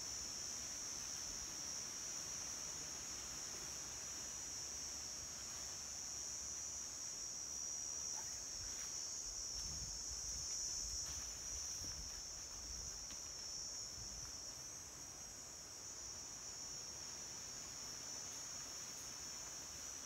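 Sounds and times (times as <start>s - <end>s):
forest insects droning: 0.0s - 20.0s.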